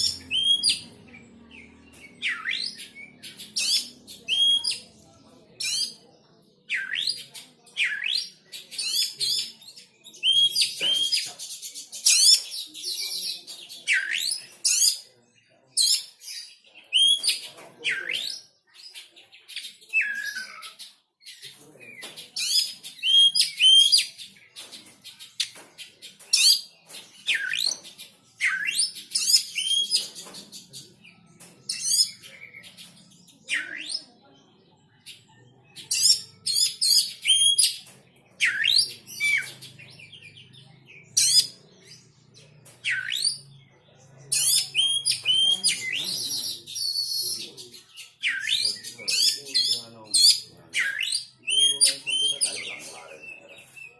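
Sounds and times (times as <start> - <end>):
songbird chirps and trills: 0.0 - 53.9.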